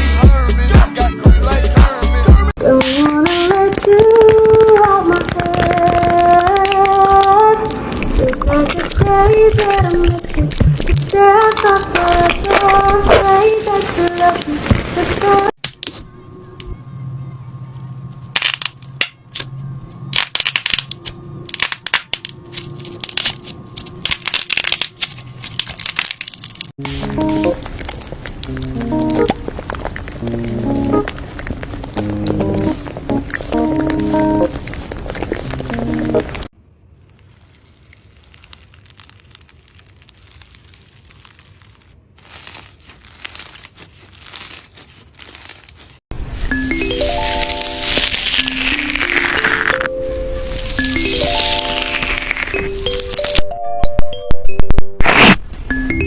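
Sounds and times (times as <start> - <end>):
slime crackling and popping: 2.8 - 16.0, 20.1 - 53.5.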